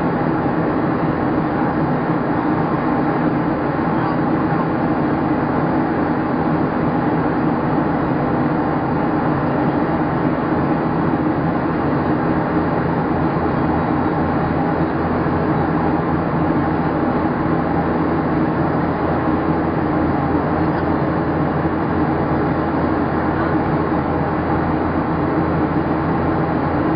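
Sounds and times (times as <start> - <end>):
jet engine drone: 0.0 - 26.9
low cabin hums: 0.0 - 26.9.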